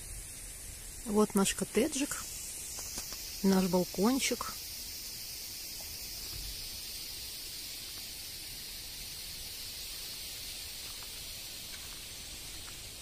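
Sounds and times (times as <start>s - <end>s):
high outdoor hiss: 0.0s - 13.0s.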